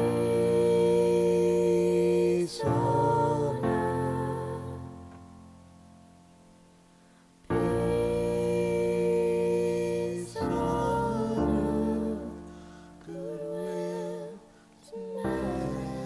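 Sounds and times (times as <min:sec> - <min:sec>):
girl singing slow song: 0:00.0 - 0:05.4, 0:07.4 - 0:16.0
piano accompaniment: 0:00.0 - 0:16.0.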